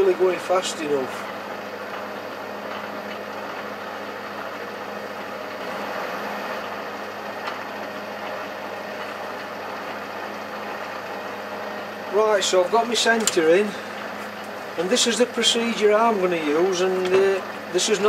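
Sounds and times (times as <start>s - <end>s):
lathe motor hum: 0.0s - 18.0s.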